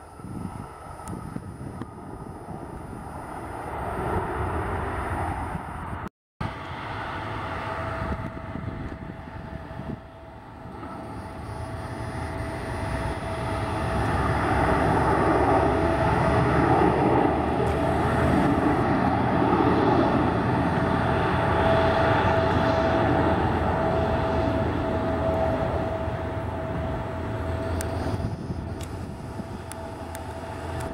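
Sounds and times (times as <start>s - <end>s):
jet engines whining: 0.0s - 30.9s.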